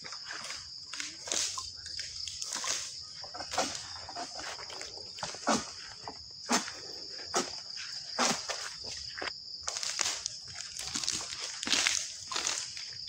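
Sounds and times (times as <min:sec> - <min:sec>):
footsteps crunching through undergrowth: 0:00.0 - 0:13.0
insects chirring: 0:00.0 - 0:13.0.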